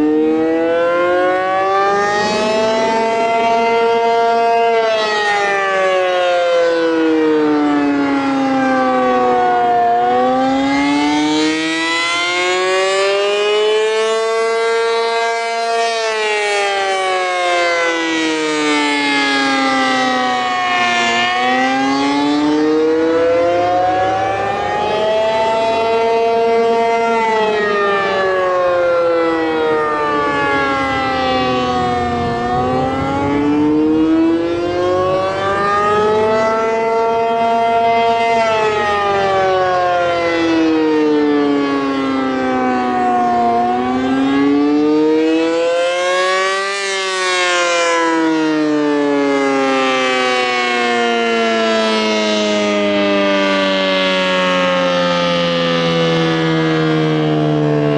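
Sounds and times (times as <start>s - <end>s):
warning siren wailing: 0.0s - 57.9s.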